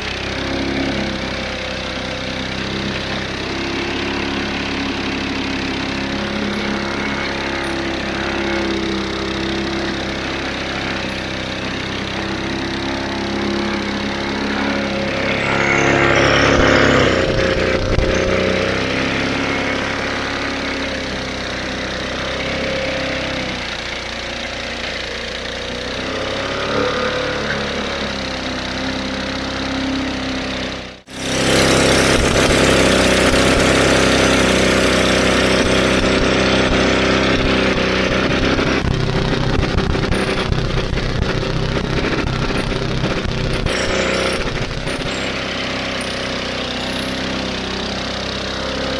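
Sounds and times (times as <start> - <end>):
lawnmower engine running: 0.0 - 48.9.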